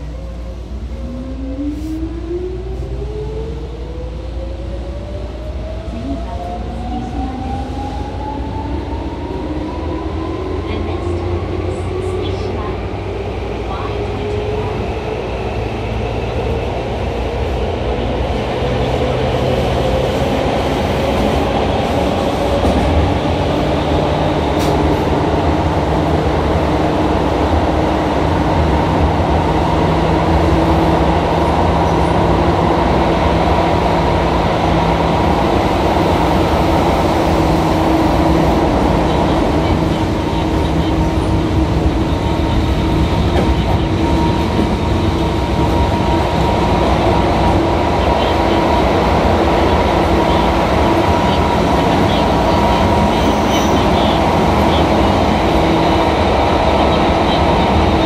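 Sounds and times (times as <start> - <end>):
train wheels and motors rumbling: 5.4 - 58.0.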